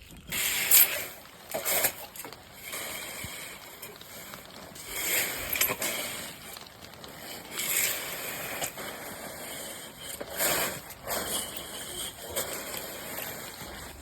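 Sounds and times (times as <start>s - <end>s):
tool scraping over sand: 0.3s - 14.0s.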